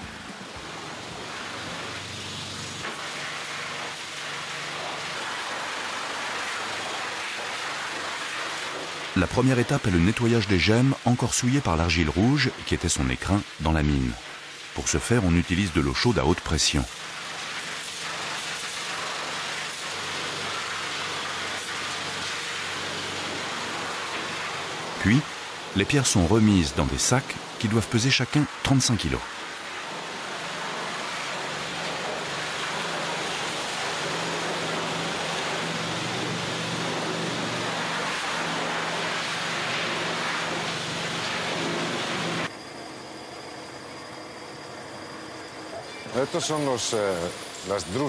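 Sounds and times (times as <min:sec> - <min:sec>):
high-pressure water spray hissing: 0:00.0 - 0:42.6, 0:44.7 - 0:48.0.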